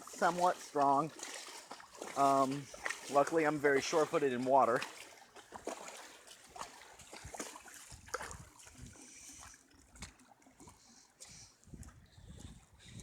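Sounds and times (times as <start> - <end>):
wading through floodwater: 0.0 - 13.0.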